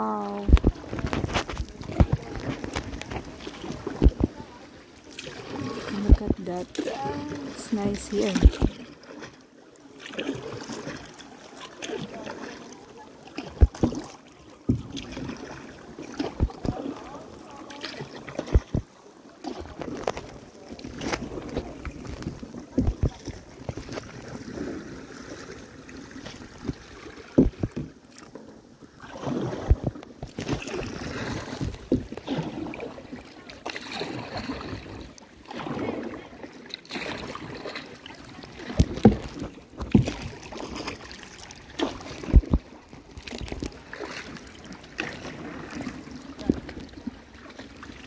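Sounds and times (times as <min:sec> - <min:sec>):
paddle strokes in water: 0:00.0 - 0:48.0.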